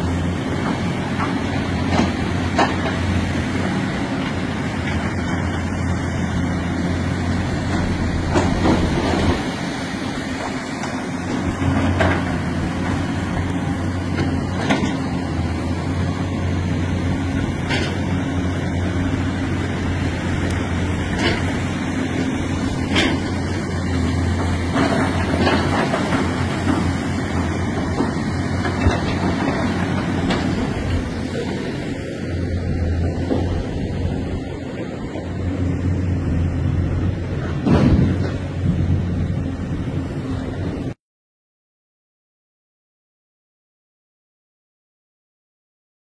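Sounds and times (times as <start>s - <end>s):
excavator diesel engines droning: 0.0s - 41.0s.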